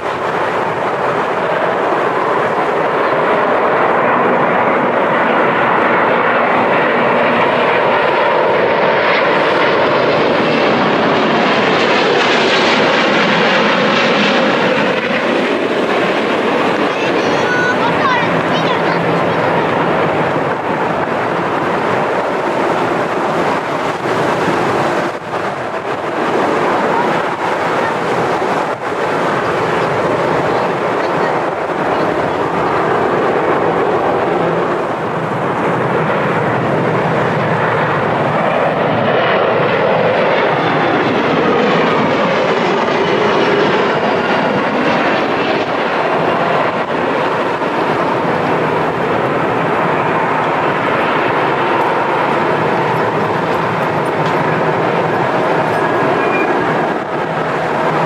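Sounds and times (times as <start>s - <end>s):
jet engine roar: 0.0s - 58.0s
passing jet whine: 0.0s - 58.0s.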